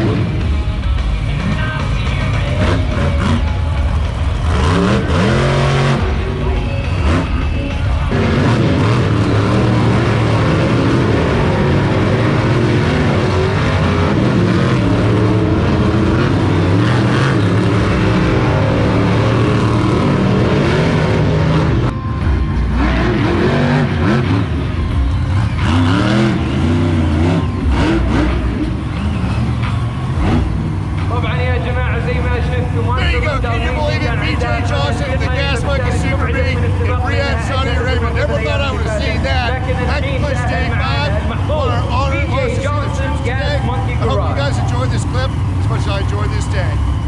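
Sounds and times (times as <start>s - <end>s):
monster truck engines revving: 0.0s - 47.0s.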